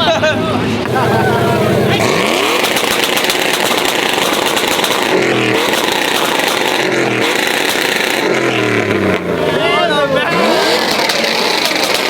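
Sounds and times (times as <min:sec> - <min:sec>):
engine revving hard: 0:00.0 - 0:12.0.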